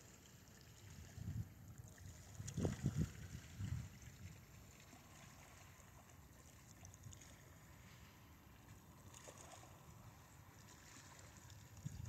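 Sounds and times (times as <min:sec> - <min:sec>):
soft water hiss: 0:00.0 - 0:12.0.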